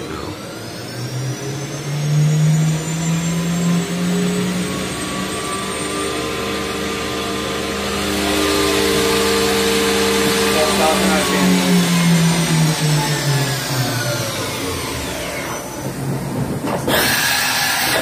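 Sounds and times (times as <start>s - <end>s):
machine spindle whine: 0.0s - 18.0s.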